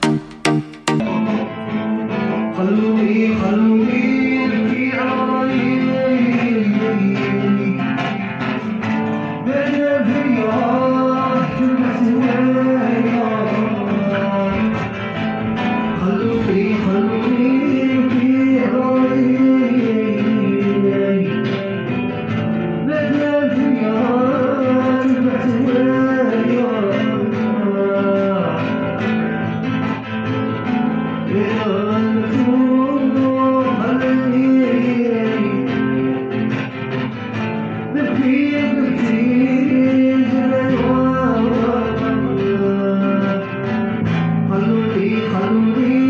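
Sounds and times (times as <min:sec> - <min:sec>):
man singing sliding melody: 0:00.0 - 0:46.0
plucked string accompaniment: 0:00.0 - 0:46.0.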